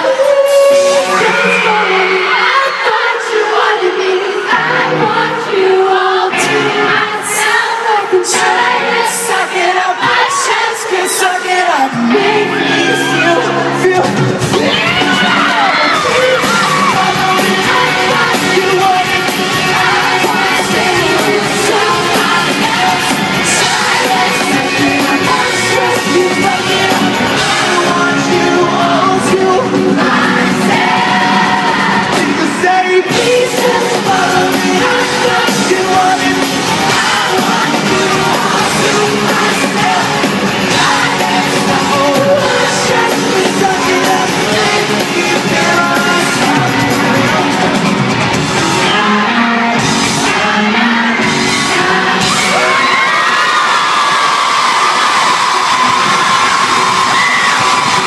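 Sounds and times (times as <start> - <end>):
crowd yells and whoops: 0.0 - 5.0, 9.8 - 58.0
live pop-rock band playing: 0.0 - 58.0
person singing: 0.0 - 58.0.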